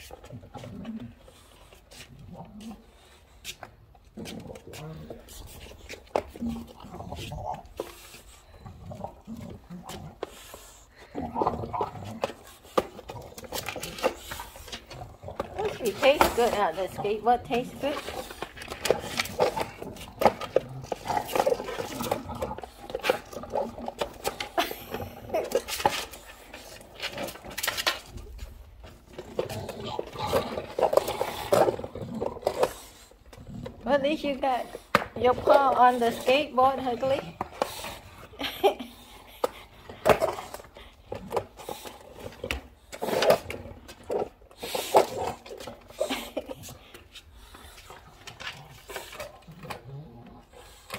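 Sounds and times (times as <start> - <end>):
dog chewing on skateboard: 0.0 - 50.9.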